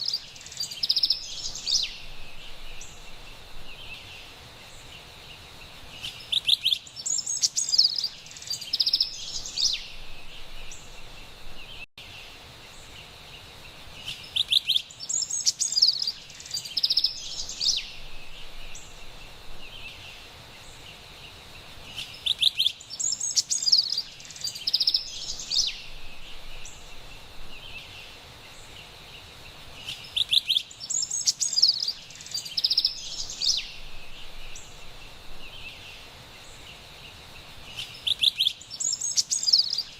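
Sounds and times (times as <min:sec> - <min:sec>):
wren singing: 0:00.0 - 0:05.0, 0:05.9 - 0:12.9, 0:13.9 - 0:39.9
forest background hiss: 0:00.0 - 0:39.9.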